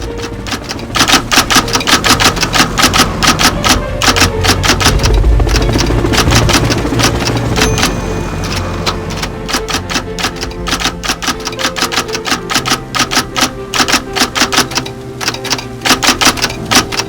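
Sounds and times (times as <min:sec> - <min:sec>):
low melodic notes: 0:00.0 - 0:17.0
percussive clicking beat: 0:00.0 - 0:17.0.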